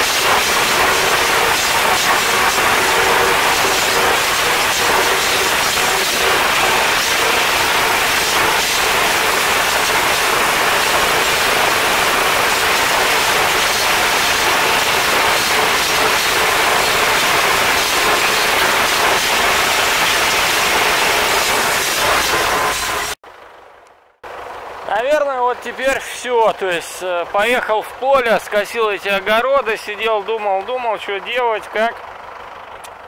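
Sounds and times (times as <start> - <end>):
tractor mower running: 0.0 - 33.0.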